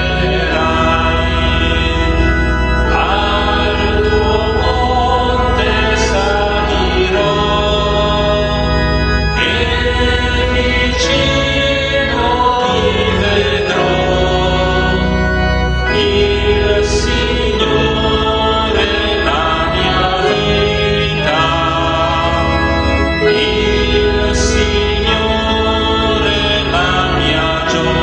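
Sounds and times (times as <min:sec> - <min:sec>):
man singing a hymn: 0:00.0 - 0:28.0
organ chords: 0:00.0 - 0:28.0.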